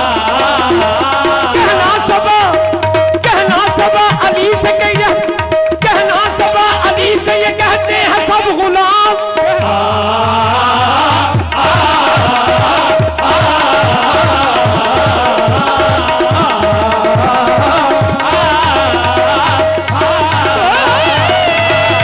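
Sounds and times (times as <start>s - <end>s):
tabla beat: 0.0s - 22.0s.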